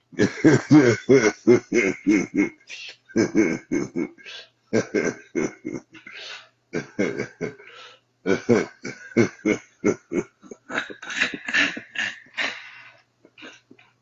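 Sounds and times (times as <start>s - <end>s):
man laughing hard: 0.0s - 13.8s.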